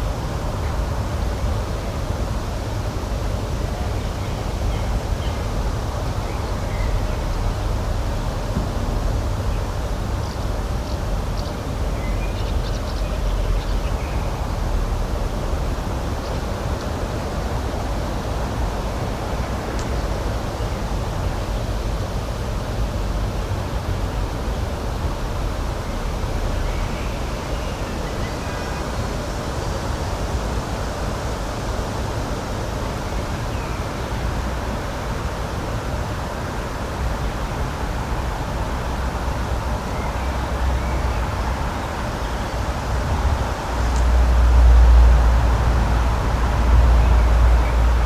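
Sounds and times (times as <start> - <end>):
rushing nature ambience: 0.0 - 48.0.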